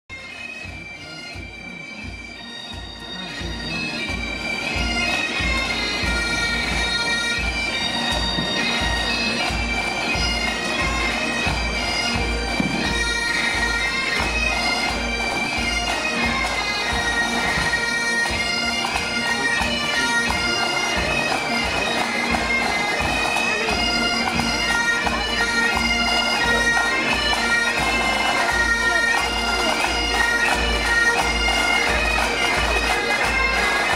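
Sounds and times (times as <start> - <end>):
bagpipes playing melody: 0.1 - 33.9.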